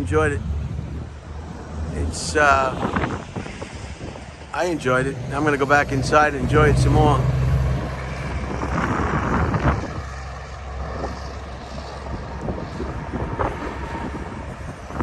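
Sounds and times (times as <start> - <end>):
truck traffic rumble: 0.0 - 15.0
wind buffeting microphone: 0.0 - 15.0.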